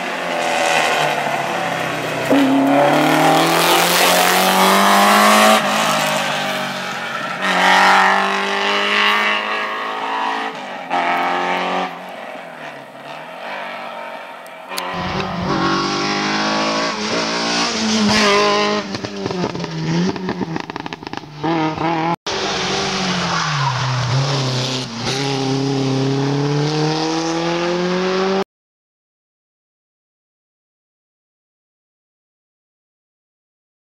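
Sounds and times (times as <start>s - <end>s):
rally car engines revving: 0.0s - 28.4s.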